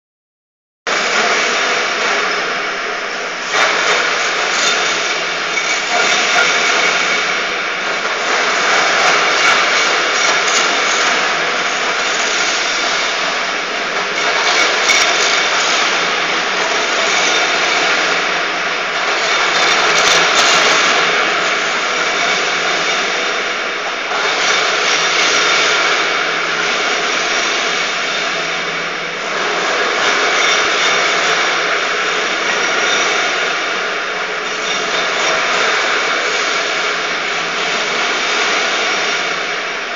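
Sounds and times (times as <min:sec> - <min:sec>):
floor grinder whirring: 0:00.9 - 0:39.9.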